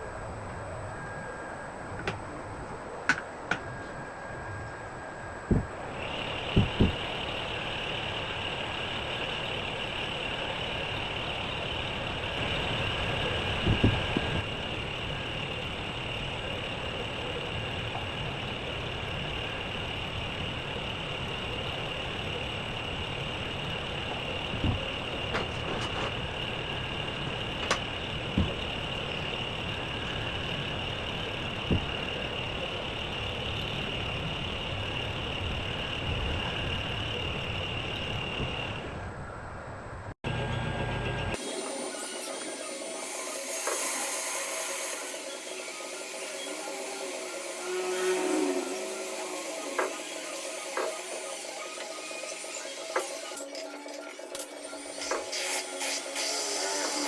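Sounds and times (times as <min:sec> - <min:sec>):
workshop machine whining: 0:00.0 - 0:57.0.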